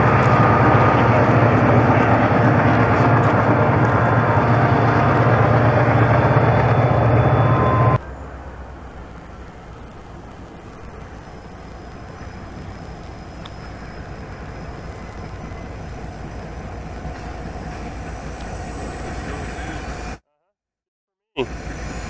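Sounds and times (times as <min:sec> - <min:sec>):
locomotive engine rumble: 0:00.0 - 0:20.2.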